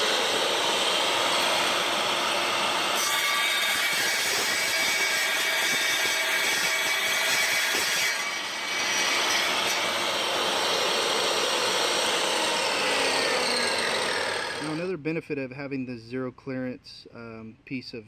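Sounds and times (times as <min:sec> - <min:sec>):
tile saw cutting tile: 0:00.0 - 0:14.8.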